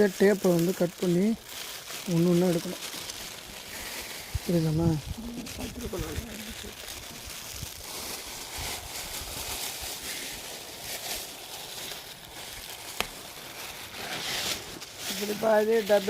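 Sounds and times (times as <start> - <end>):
material rustling and crinkling: 0.0 - 16.0.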